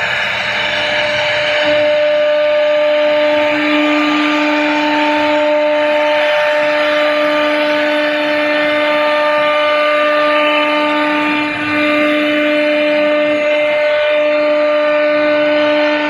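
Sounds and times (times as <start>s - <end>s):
hiss of cutting: 0.0s - 16.0s
router spindle whining: 0.0s - 16.0s.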